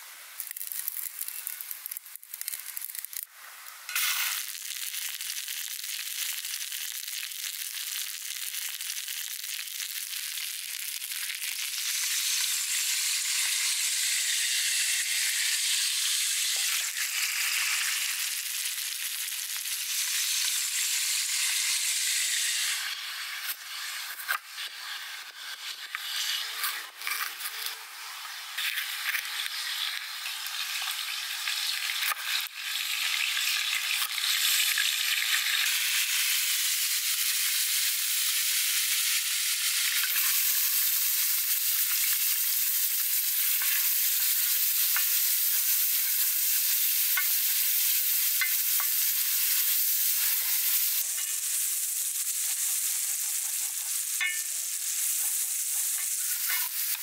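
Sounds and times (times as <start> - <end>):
onion sizzling in oil: 0.0 - 57.0.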